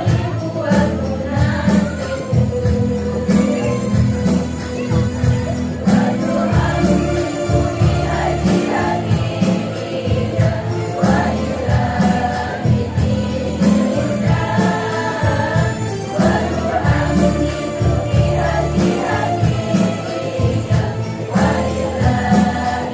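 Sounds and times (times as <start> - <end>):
percussion with jingles: 0.0 - 22.9
women's choir singing: 0.0 - 22.9.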